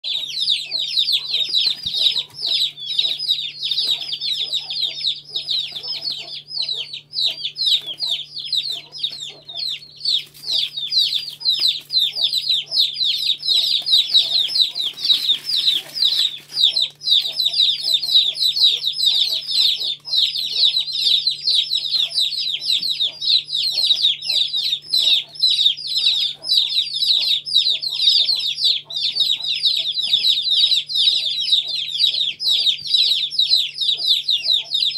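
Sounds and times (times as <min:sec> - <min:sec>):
chicks peeping: 0:00.0 - 0:34.9.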